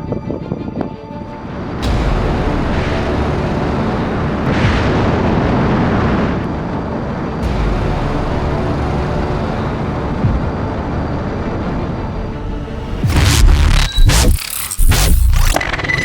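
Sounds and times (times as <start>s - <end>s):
heavy rumbling explosions: 1.8s - 15.7s.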